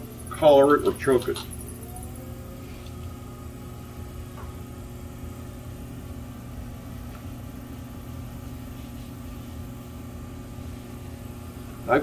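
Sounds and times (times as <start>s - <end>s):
potter's wheel motor hum: 0.0s - 12.0s.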